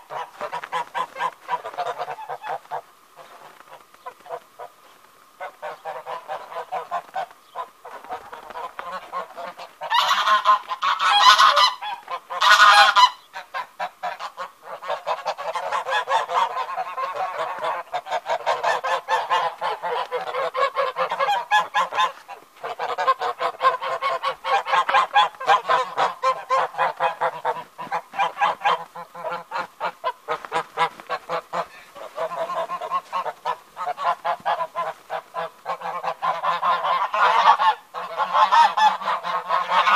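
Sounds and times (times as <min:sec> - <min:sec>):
geese honking and cackling: 0:00.0 - 0:39.9.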